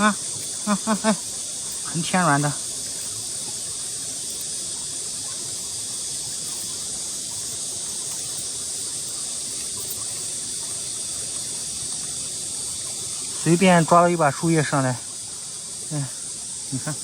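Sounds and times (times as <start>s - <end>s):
insect chorus hissing: 0.0s - 17.0s.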